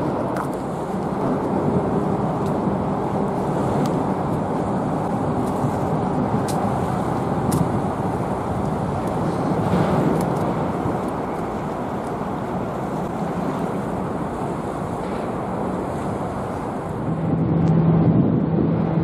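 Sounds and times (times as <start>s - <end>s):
sea water washing over breakwater: 0.0s - 17.5s
wind buffeting microphone: 0.0s - 19.0s.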